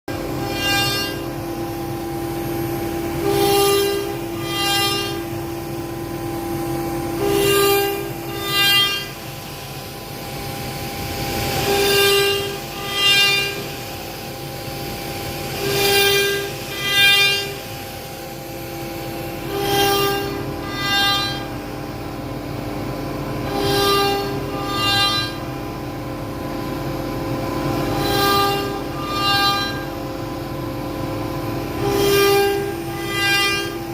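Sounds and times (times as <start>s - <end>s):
cnc router spindle whine: 0.1s - 33.9s.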